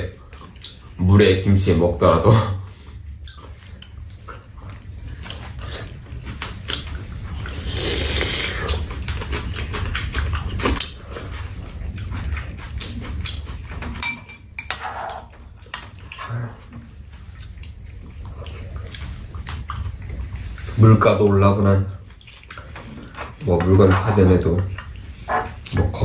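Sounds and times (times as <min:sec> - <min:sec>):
people chewing: 0:00.0 - 0:01.0, 0:02.2 - 0:14.0, 0:14.7 - 0:26.0.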